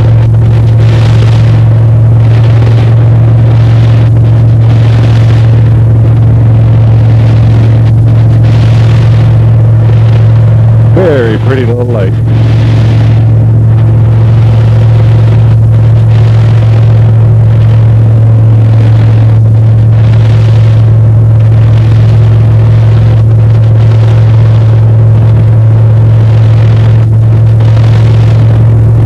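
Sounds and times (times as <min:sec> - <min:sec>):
aircraft engine drone: 0:00.0 - 0:29.0.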